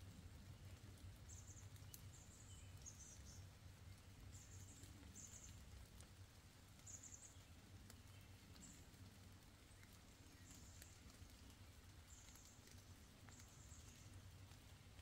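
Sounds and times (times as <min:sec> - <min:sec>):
faint ticks: 0:00.3 - 0:15.0.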